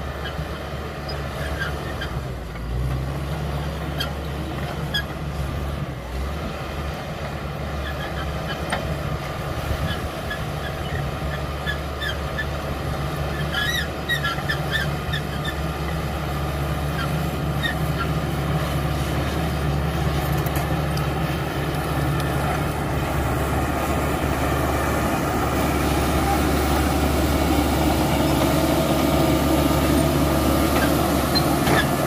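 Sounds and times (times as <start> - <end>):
bulldozer diesel engine: 0.0 - 32.0.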